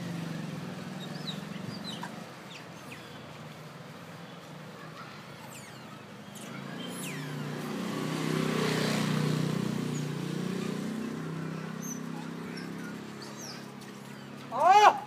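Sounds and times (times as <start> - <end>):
vehicle engine approaching: 0.0 - 4.1, 5.6 - 14.7.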